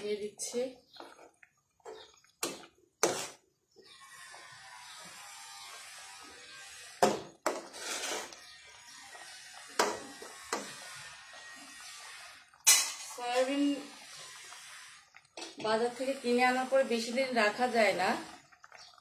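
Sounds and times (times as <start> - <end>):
pan sizzling: 2.4 - 3.4, 4.0 - 19.0.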